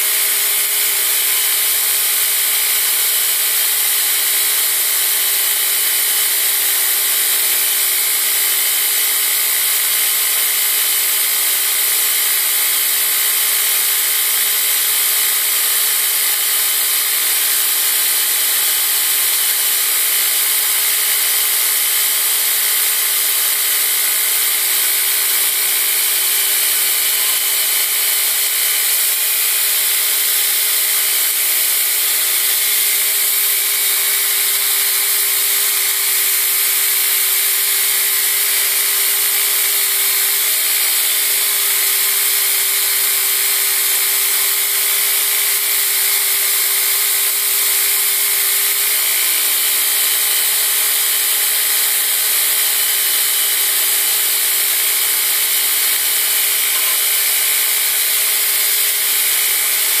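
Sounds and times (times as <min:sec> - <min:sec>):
belt grinder grinding steel: 0:00.0 - 1:00.0.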